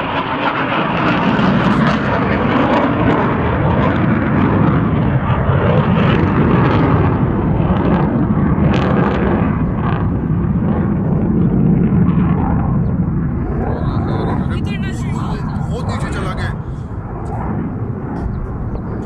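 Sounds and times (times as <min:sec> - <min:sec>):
fighter jets flying overhead: 0:00.0 - 0:19.0.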